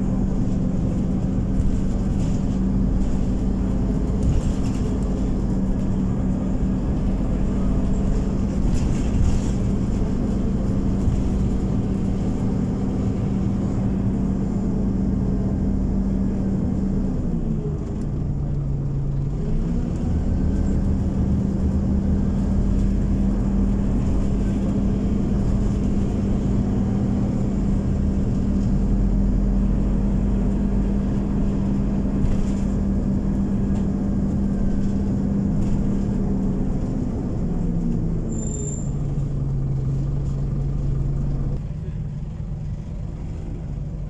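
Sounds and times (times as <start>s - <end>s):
bus engine humming: 0.0s - 44.0s
road noise: 0.0s - 44.0s.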